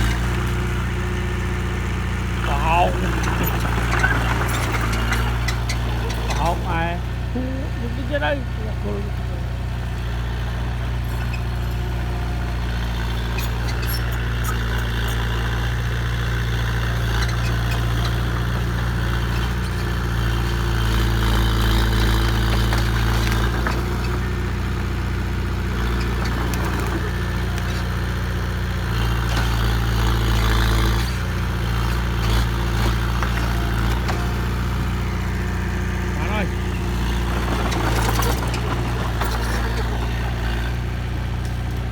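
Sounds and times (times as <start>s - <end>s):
heavy diesel engine revving: 0.0s - 41.9s.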